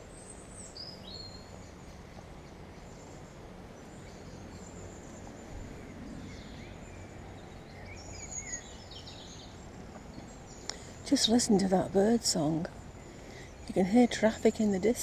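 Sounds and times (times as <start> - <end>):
distant traffic rumble: 0.0 - 15.0
songbirds chirping and trilling: 0.0 - 15.0.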